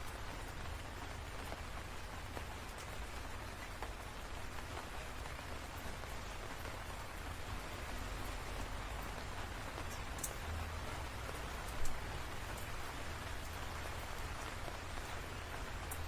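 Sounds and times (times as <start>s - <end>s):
rain hiss: 0.0s - 16.0s
raindrops ticking: 0.0s - 16.0s.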